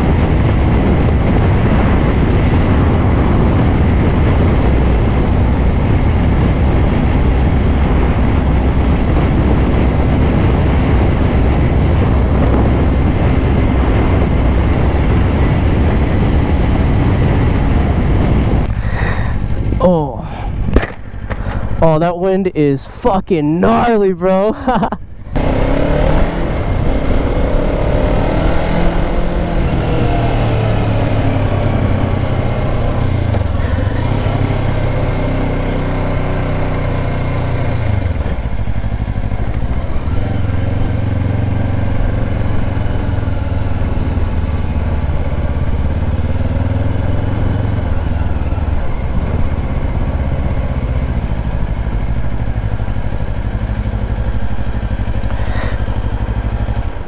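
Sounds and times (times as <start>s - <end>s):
motorcycle engine running: 0.0s - 21.8s, 23.7s - 57.0s
wind rushing over microphone: 0.0s - 22.7s, 23.3s - 57.0s.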